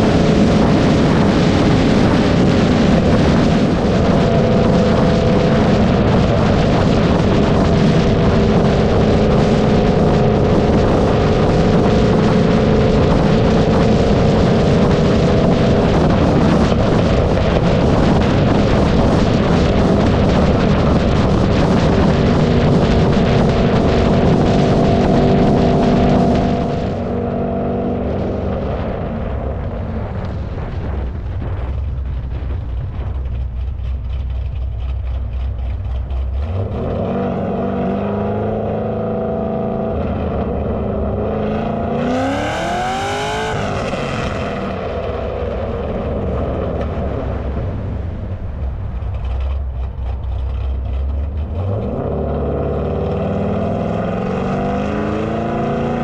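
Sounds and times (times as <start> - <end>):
car exhaust revving: 0.0 - 56.0
wind rush: 0.0 - 56.0.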